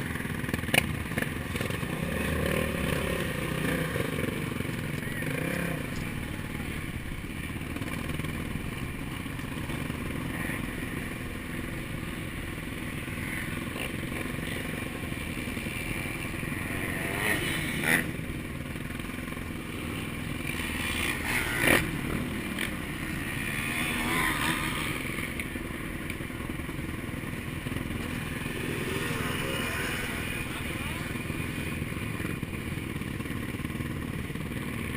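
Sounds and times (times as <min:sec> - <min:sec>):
motorbike engine running: 0:00.0 - 0:34.9.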